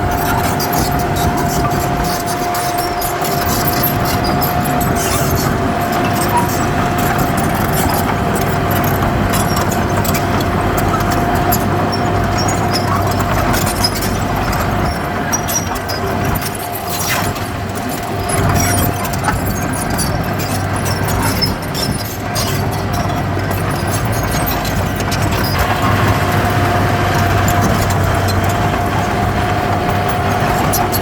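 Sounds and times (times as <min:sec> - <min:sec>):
clicks and rattles: 0:00.0 - 0:31.0
continuous high whine: 0:00.0 - 0:31.0
diesel earthmoving machine running: 0:00.0 - 0:31.0.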